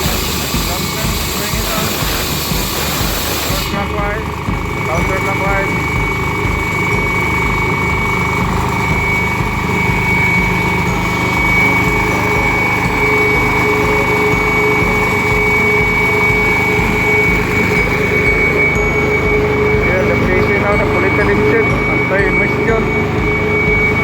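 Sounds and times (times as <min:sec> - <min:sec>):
engine rumbling: 0:00.0 - 0:24.0
high whine: 0:00.0 - 0:24.0.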